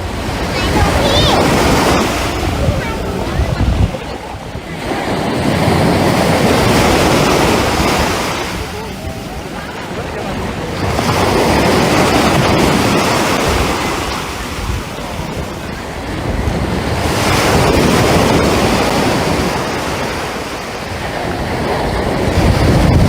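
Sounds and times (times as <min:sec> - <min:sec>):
surf washing onto beach: 0:00.0 - 0:23.0
wind buffeting microphone: 0:00.0 - 0:23.0.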